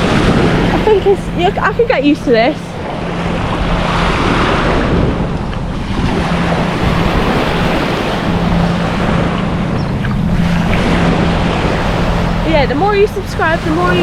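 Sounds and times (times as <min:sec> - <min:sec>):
sea waves washing: 0:00.0 - 0:14.0
steady low hum: 0:00.0 - 0:14.0
wind buffeting microphone: 0:00.0 - 0:14.0.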